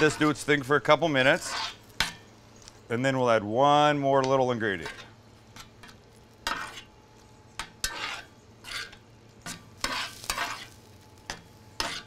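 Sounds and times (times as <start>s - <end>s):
metal spoon scraping a skillet: 0.0s - 2.7s, 4.3s - 12.0s
sauce sizzling: 0.0s - 2.9s, 4.8s - 12.0s.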